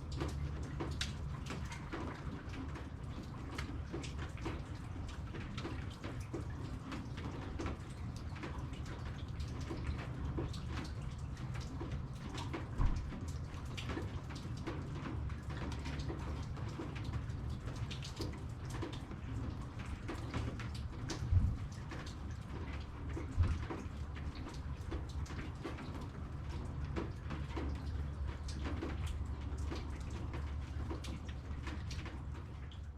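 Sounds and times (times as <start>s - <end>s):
raindrops tapping: 0.0s - 32.9s.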